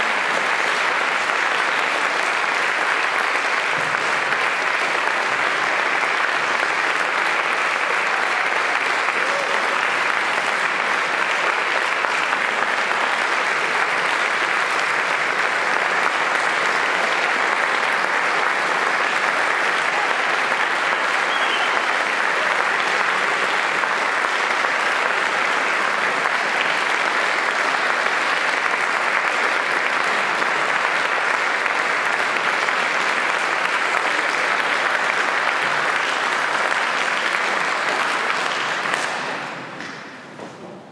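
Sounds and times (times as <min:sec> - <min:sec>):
audience applauding: 0:00.0 - 0:40.2.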